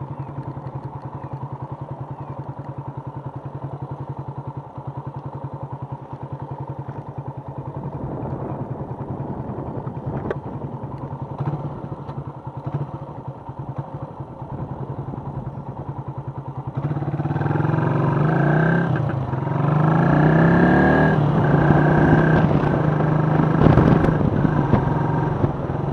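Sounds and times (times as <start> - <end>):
motorcycle engine idling and accelerating: 0.0 - 25.9.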